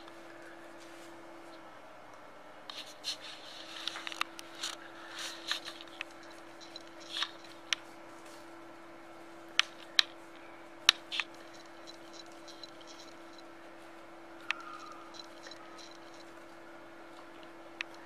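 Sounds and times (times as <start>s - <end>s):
steady low hum: 0.0s - 18.0s
banknote paper rustling and crackling: 2.7s - 18.0s.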